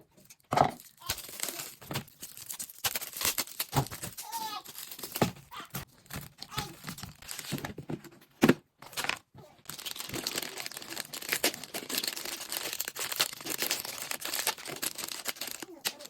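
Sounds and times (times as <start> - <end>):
plastic packaging crinkling: 0.3 - 7.8, 8.9 - 16.0.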